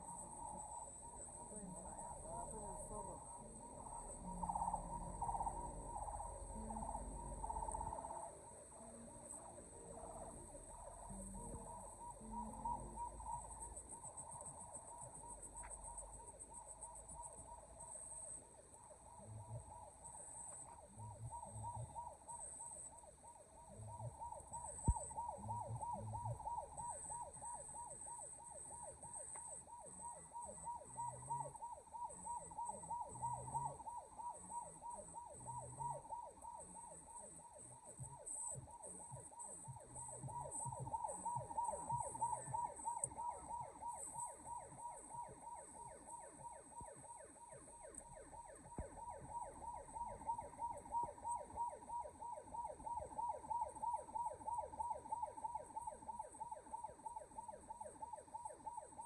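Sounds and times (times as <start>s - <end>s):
siren-like electronic tone: 0.0s - 59.0s.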